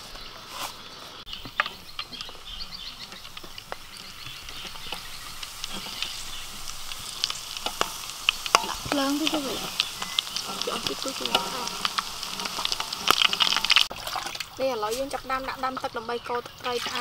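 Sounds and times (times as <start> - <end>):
shrimp deep-frying in oil: 0.0 - 17.0.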